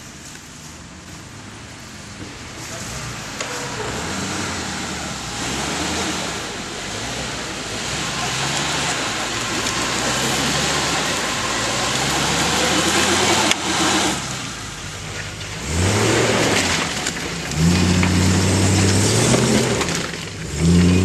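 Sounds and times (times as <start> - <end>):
broad rushing noise: 0.0 - 20.8
off-road vehicle engine revving: 2.5 - 21.0.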